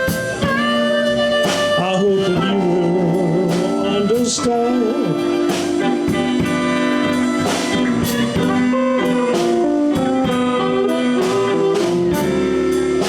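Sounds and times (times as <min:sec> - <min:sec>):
bass guitar: 0:00.0 - 0:13.0
drum kit steady beat: 0:00.0 - 0:13.0
electric guitar melodic fill: 0:00.0 - 0:13.0.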